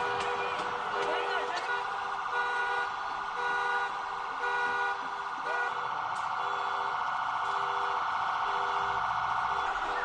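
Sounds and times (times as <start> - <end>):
vehicle alarm beeping and warbling: 0.0 - 10.0.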